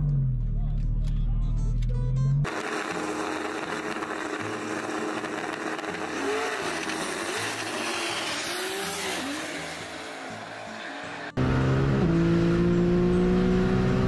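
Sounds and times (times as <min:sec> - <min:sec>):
race car rushing noise: 0:02.5 - 0:14.0.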